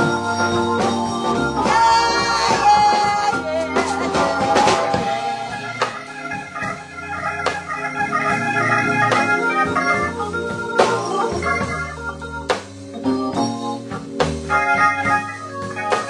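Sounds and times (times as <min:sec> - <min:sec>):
drum kit: 0:00.0 - 0:16.0
organ playing slow blues: 0:00.0 - 0:16.0.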